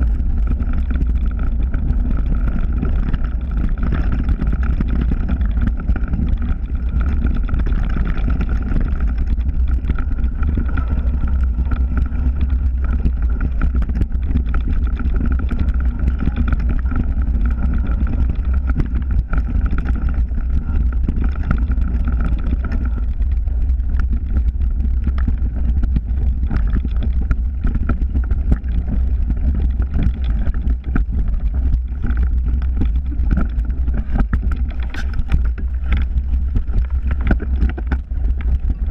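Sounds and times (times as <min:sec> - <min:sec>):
bike rattles and knocks: 0:00.0 - 0:38.9
faint steady whine: 0:00.0 - 0:38.9
tyre rumble: 0:00.0 - 0:38.9
wind buffeting: 0:00.0 - 0:38.9.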